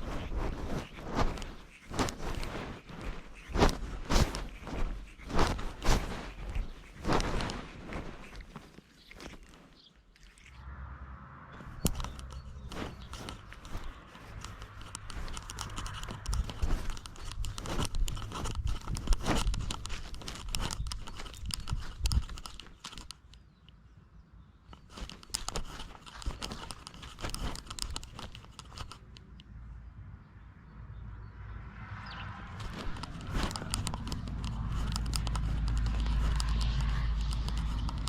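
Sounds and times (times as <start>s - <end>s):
cat scratching loose ground: 0.0s - 10.6s, 11.6s - 23.4s, 24.7s - 29.3s, 32.4s - 38.0s.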